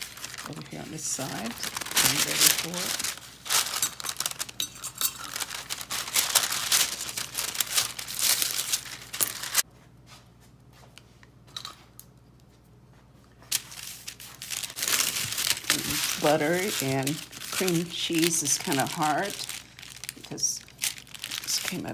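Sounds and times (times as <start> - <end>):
parchment paper crinkling: 0.0 - 9.6, 13.4 - 21.9.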